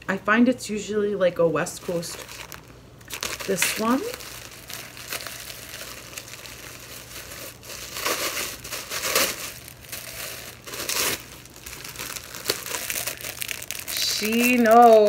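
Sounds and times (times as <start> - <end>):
tissue paper crinkling: 1.6 - 15.0.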